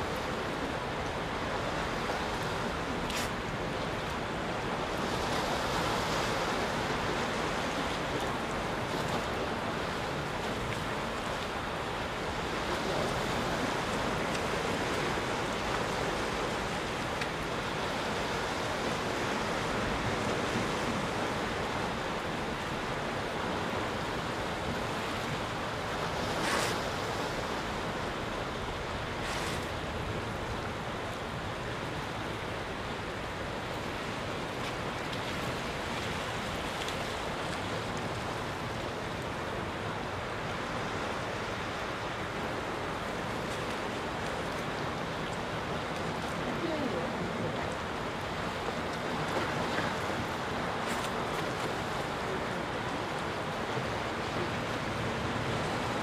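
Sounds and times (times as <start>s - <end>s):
surf washing against rocks: 0.0s - 56.0s.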